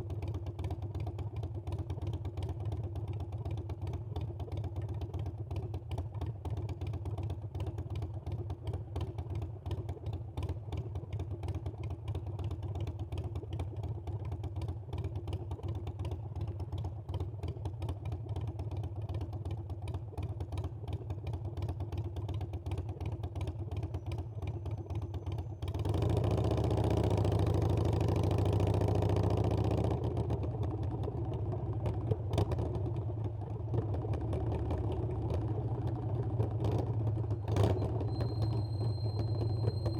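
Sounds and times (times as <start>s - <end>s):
motorcycle engine running: 0.1s - 39.9s.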